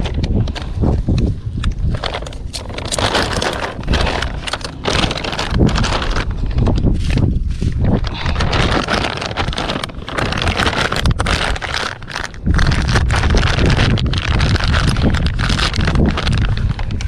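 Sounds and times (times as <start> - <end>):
plastic bag crinkling: 0.0 - 17.0
wind buffeting microphone: 0.0 - 17.0.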